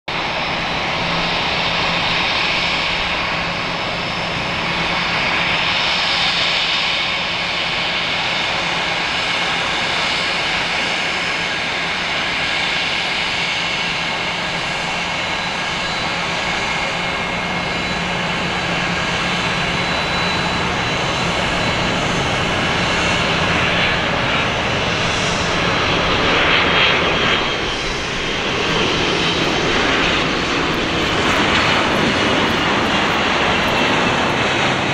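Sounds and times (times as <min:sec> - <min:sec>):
jet engines with high whine: 0:00.0 - 0:34.9.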